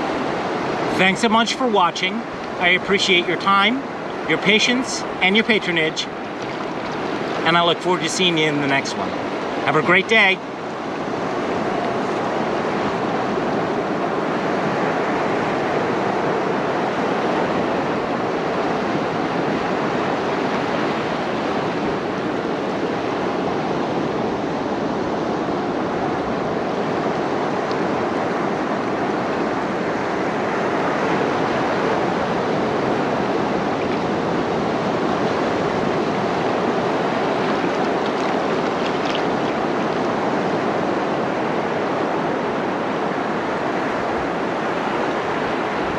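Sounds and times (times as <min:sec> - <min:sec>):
ocean surf washing on rocks: 0:00.0 - 0:24.5, 0:25.2 - 0:45.9.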